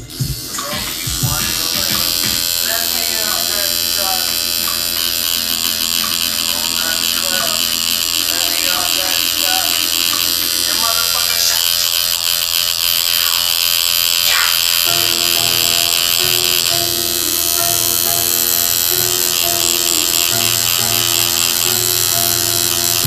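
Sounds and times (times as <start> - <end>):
background music: 0.0 - 11.6, 14.9 - 23.0
tattoo machine buzzing: 0.0 - 23.0.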